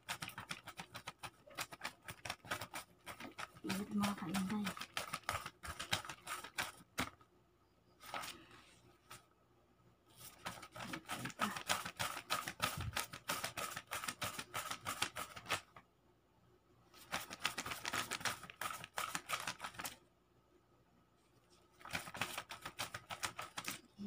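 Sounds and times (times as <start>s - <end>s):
banknotes flapping and rustling: 0.0s - 7.2s, 8.0s - 9.3s, 10.1s - 15.8s, 17.0s - 20.0s, 21.6s - 24.0s.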